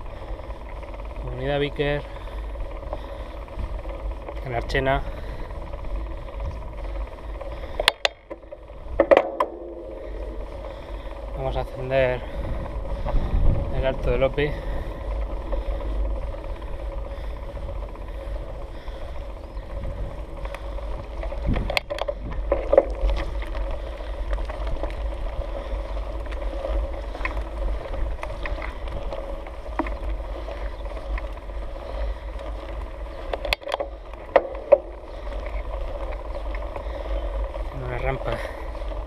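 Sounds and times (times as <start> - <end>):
bike clicks and knocks: 0.0 - 39.0
bike tyres rolling on concrete: 0.0 - 39.0.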